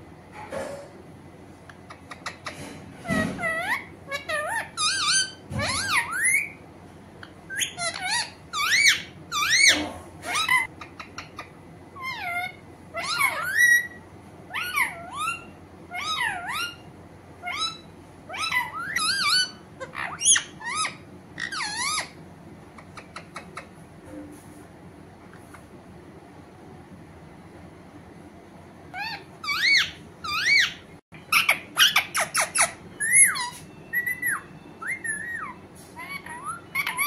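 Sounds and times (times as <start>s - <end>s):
parakeet chirps and squawks: 1.6s - 6.6s, 7.2s - 23.8s, 25.3s - 25.8s, 28.9s - 37.0s.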